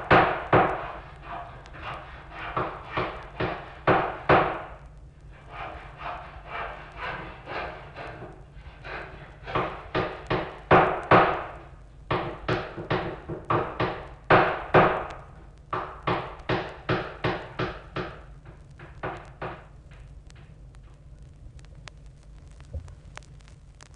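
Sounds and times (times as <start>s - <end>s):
faint steady hiss: 0.0s - 23.9s.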